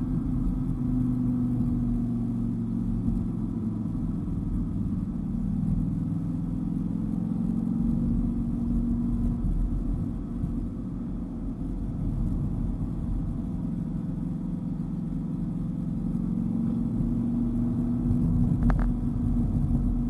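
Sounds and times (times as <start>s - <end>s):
car engine cruising: 0.0s - 20.0s.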